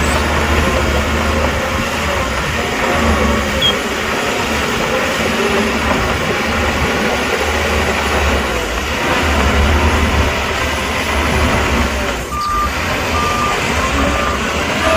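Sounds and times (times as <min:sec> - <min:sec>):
diesel machinery engine rumble: 0:00.0 - 0:14.9.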